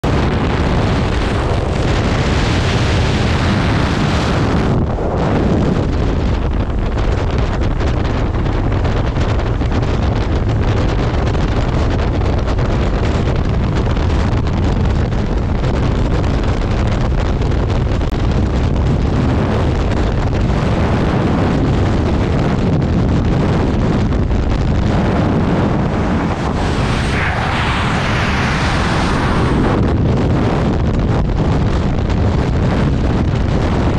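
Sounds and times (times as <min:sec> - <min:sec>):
airplane engine: 0:00.0 - 0:33.9
loud wind buffeting microphone: 0:00.0 - 0:33.9.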